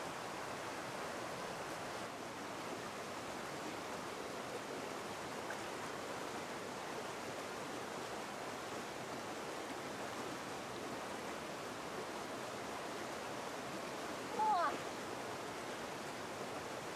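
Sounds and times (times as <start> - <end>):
stream rushing: 0.0 - 16.9.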